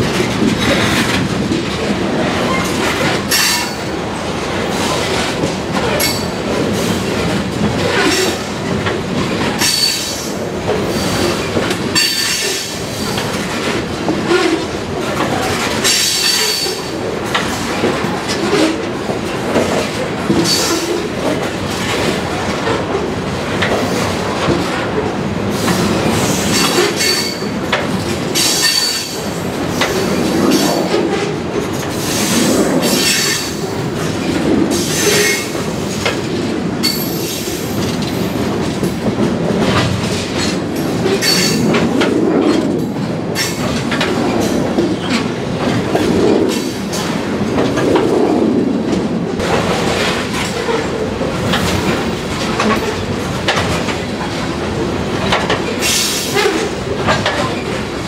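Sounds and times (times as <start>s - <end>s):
freight train rumbling: 0.0s - 58.0s
wheels clacking over rail joints: 0.0s - 58.0s.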